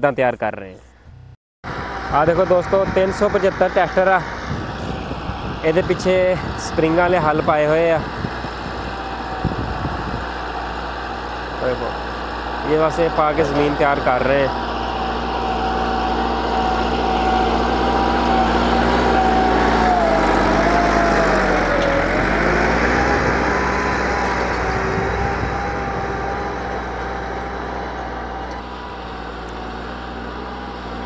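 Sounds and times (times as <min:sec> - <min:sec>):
tractor diesel engine under load: 0:01.6 - 0:31.0.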